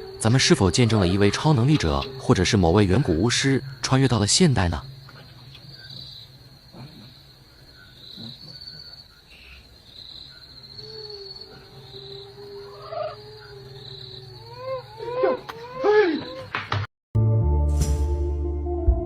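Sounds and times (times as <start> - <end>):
crickets chirping: 0.0 - 16.6.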